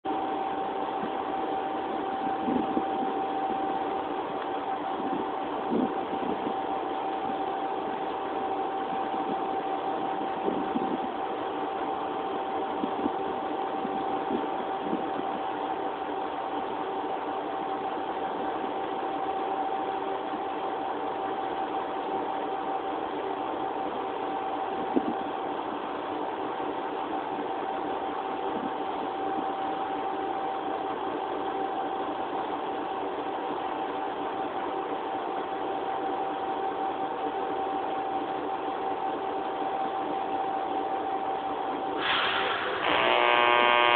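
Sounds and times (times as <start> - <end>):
steady high whine: 0.1 - 43.9.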